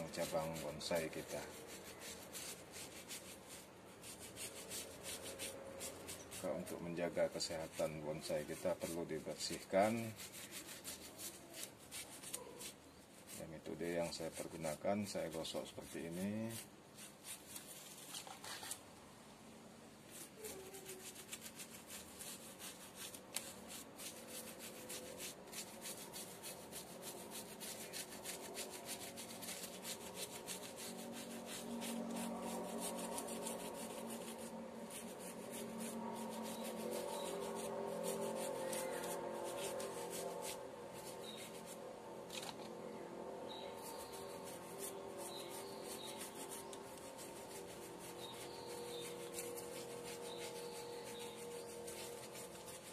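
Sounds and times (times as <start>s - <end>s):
toothbrush scrubbing bark: 0.0s - 18.8s, 20.1s - 42.4s, 43.2s - 52.9s.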